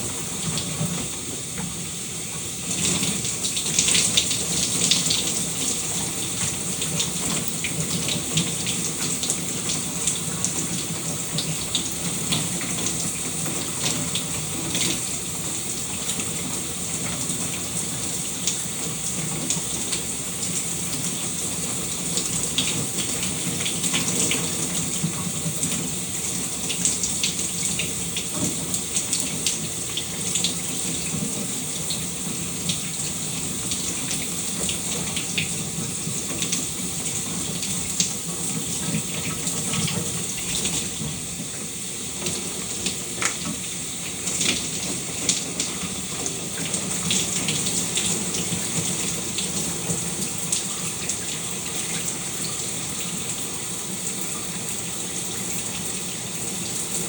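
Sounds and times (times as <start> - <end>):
shower water spraying: 0.0 - 57.0.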